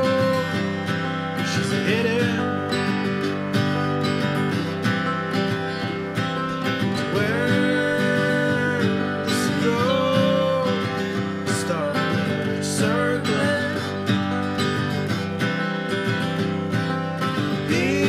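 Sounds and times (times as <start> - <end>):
acoustic guitars playing folk tune: 0.0 - 18.0.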